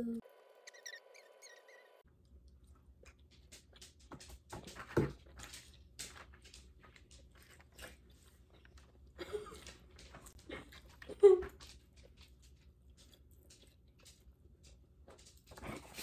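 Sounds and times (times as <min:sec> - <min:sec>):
person chewing food: 0:02.0 - 0:16.0.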